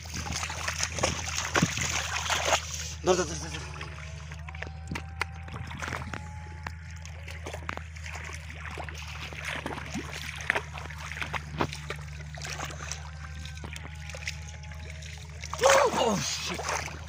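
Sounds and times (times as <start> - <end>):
hands splashing in muddy water: 0.0 - 17.0
steady low hum: 0.0 - 17.0.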